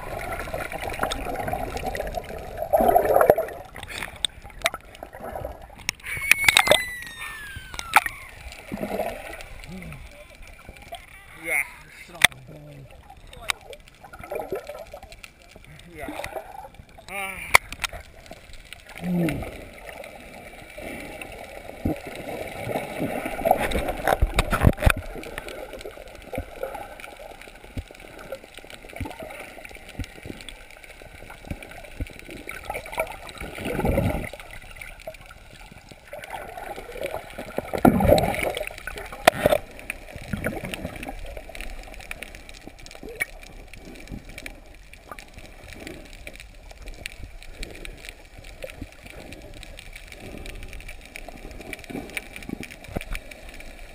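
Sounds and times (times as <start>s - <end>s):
rushing bubbling water: 0.0s - 53.9s
underwater gurgling and sloshing: 0.0s - 53.9s.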